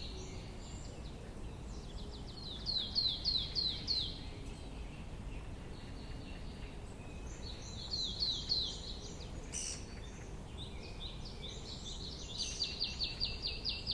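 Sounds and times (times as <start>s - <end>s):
low background noise: 0.0s - 13.9s
songbirds chirping: 0.0s - 13.9s.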